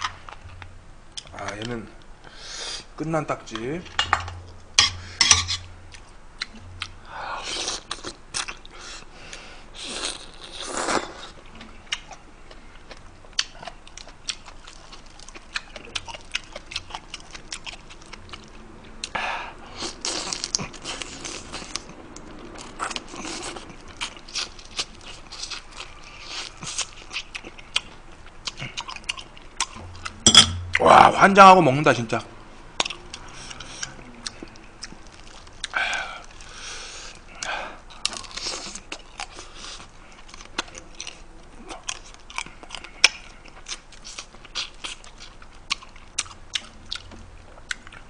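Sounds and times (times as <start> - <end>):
chewing and crunching: 5.5 - 30.9, 32.8 - 48.0.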